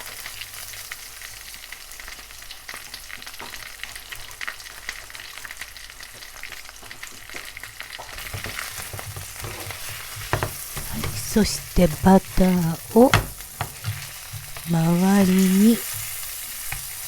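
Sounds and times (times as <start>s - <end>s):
chicken frying in a pan: 0.0s - 17.0s.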